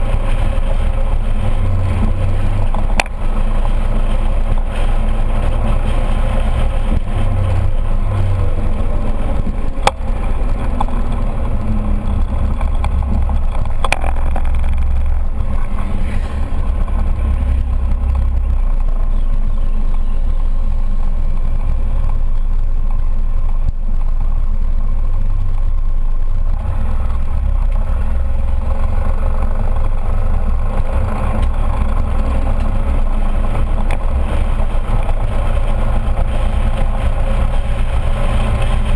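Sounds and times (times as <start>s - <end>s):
scooter engine: 0.0s - 38.9s
wind rumble on microphone: 0.0s - 38.9s.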